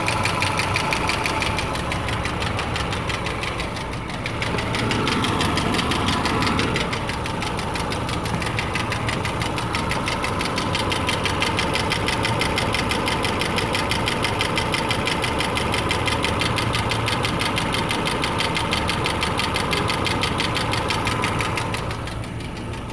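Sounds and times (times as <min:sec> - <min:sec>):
car engine idling: 0:00.0 - 0:22.9
rapid engine ticking: 0:00.0 - 0:22.9.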